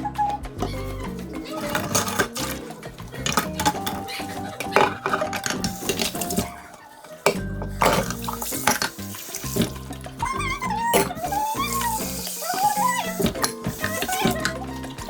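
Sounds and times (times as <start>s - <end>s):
dishes and cutlery clattering: 0.1s - 15.0s.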